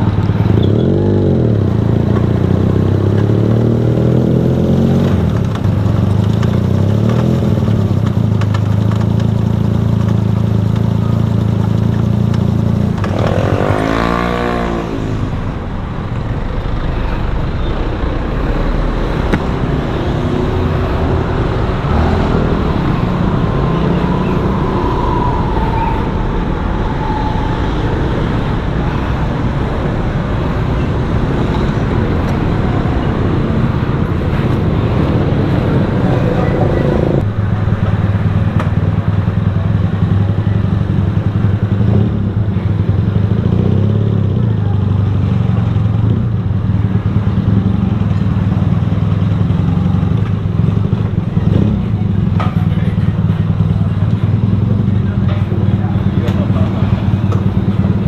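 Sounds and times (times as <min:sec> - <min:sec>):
road and traffic noise: 0:00.0 - 0:58.0
vehicle engine running: 0:00.0 - 0:58.0.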